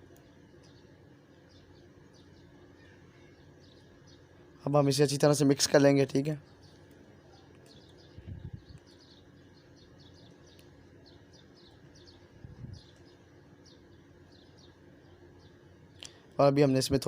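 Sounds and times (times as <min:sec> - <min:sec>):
bird chirping: 0:00.0 - 0:16.2.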